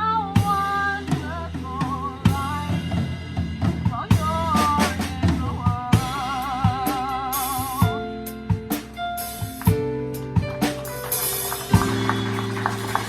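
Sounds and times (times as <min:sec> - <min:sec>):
live band drums: 0:00.0 - 0:13.0.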